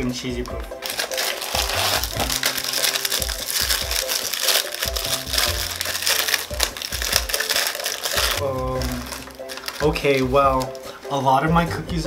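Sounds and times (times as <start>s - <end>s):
background music: 0.0s - 12.0s
foil wrapper crinkling: 0.8s - 10.9s.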